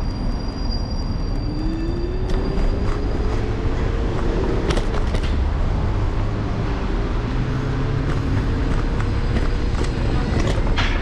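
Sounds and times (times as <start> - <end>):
road and traffic rumble: 0.0 - 11.0.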